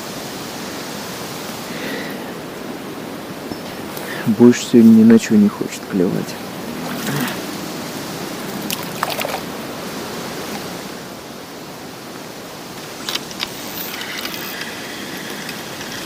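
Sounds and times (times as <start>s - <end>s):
choppy water at shore: 0.0s - 16.0s.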